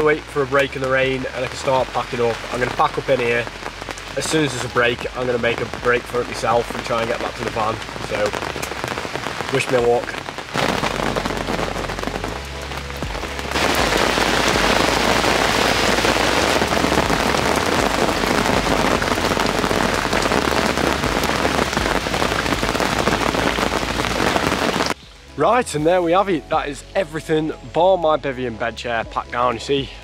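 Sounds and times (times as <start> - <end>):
heavy rain pouring: 0.0 - 27.8.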